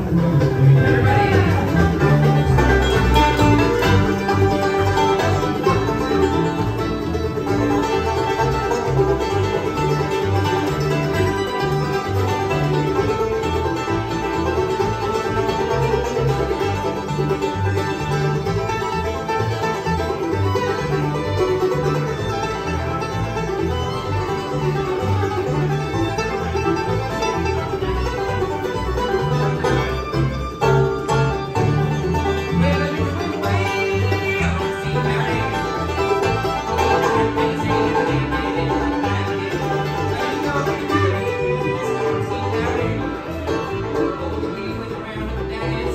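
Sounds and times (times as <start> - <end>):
banjo: 0.0 - 45.9
bluegrass band playing live: 0.0 - 45.9
low bass notes: 0.0 - 45.9.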